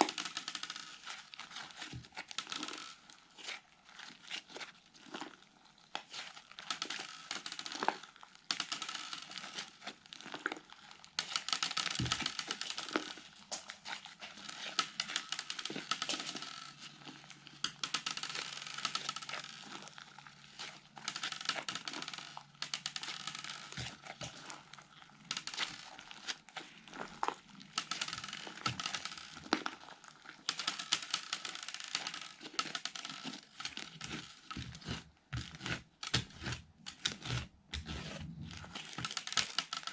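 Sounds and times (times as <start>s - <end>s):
slime crackling and crinkling: 0.0s - 39.9s.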